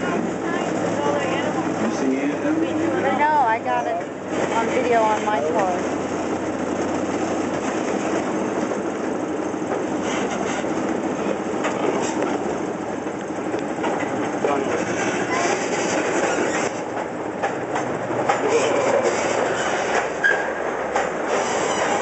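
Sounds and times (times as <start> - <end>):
train car rattling: 0.0 - 22.0
train wheels on rails: 0.0 - 22.0
rail joint clicks: 3.8 - 22.0.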